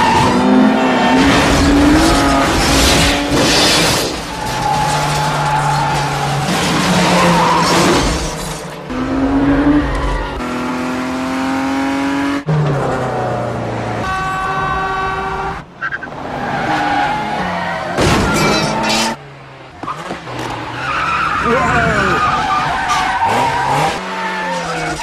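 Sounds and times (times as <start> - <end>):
tyres squealing and skidding: 0.0 - 10.6, 14.0 - 19.2, 19.8 - 25.0
car engines revving hard: 0.0 - 25.0.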